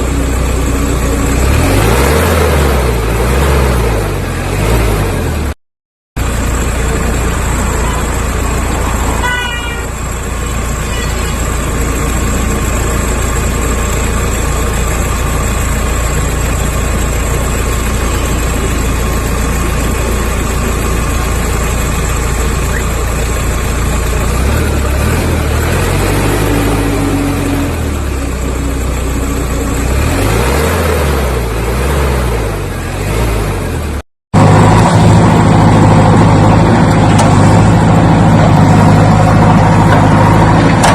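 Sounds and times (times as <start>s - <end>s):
louder engine sound: 0.0s - 5.6s, 6.2s - 40.9s
vehicle engine running: 0.0s - 5.6s, 6.2s - 40.9s.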